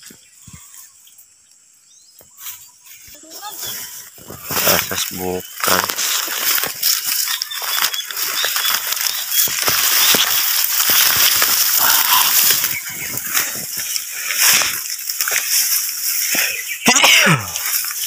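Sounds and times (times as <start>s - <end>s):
dry grass rustling and crackling: 0.0s - 18.0s
footsteps crunching in grass: 2.0s - 18.0s.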